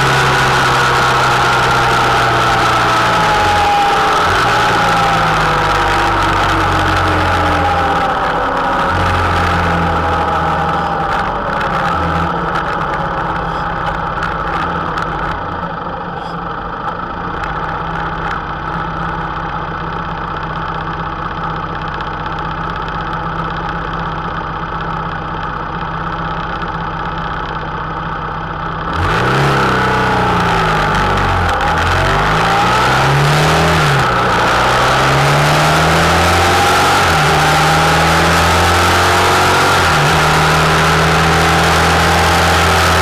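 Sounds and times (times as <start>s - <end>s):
motorcycle engine: 0.0s - 43.0s.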